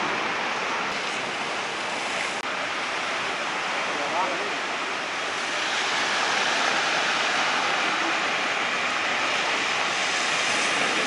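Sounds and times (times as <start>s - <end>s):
cars driving through floodwater: 0.0s - 11.0s.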